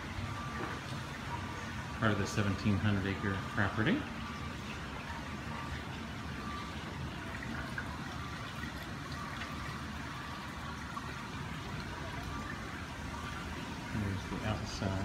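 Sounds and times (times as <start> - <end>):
water rushing and trickling: 0.0 - 15.0.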